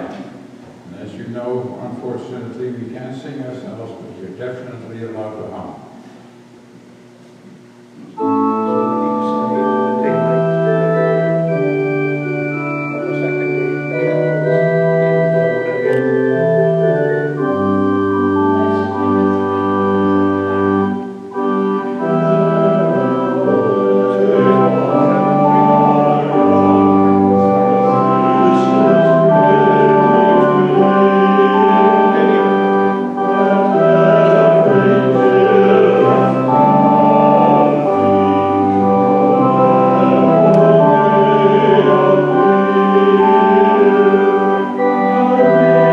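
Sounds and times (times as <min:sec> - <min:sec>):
church organ chords: 0:00.0 - 0:45.9.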